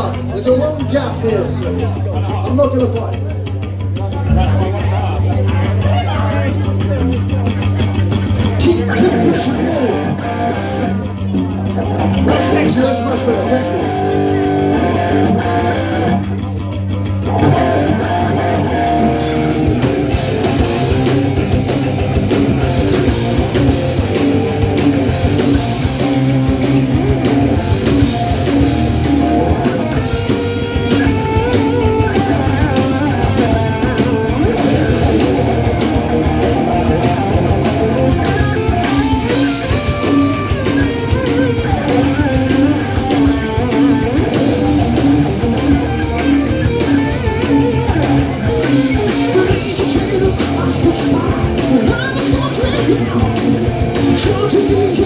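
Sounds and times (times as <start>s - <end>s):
bass guitar: 0.0s - 55.0s
distorted electric guitars: 0.0s - 55.0s
drums: 0.0s - 55.0s.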